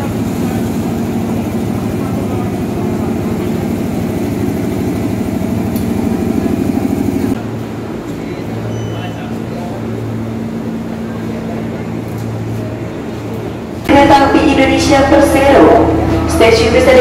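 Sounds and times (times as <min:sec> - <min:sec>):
crowd talking: 0:00.0 - 0:17.0
electric train hum: 0:00.0 - 0:17.0.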